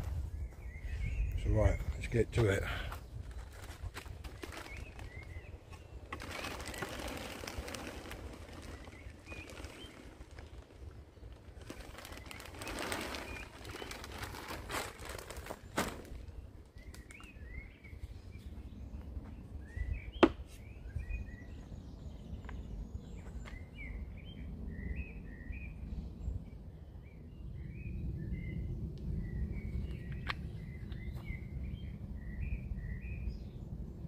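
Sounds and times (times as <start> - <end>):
small birds chirping: 0.2 - 33.6.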